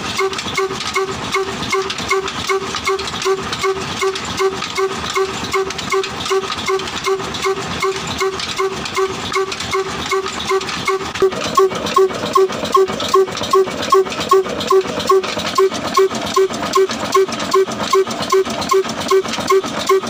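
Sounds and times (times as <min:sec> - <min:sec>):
small diesel engine running: 0:00.0 - 0:20.0.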